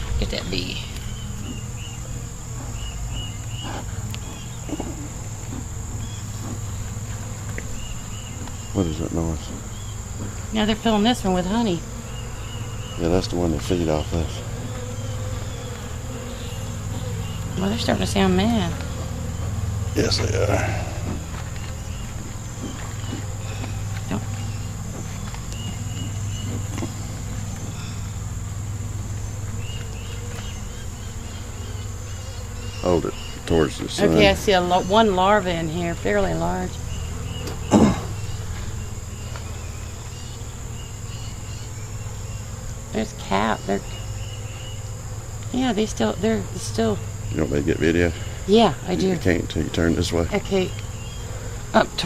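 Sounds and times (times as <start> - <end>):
bees humming: 0.0 - 52.0
high-pitched insect drone: 0.0 - 52.0
honeybees buzzing: 0.0 - 52.0.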